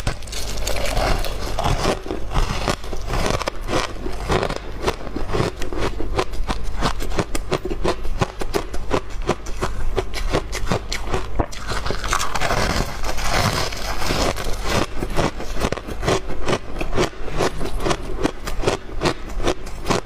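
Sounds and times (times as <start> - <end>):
ice crunching being chewed: 0.0 - 20.0.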